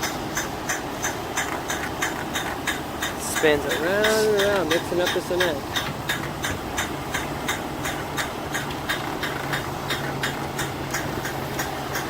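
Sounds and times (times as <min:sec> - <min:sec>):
rapid mechanical ticking: 0:00.0 - 0:12.0
truck engine hum: 0:00.0 - 0:12.0.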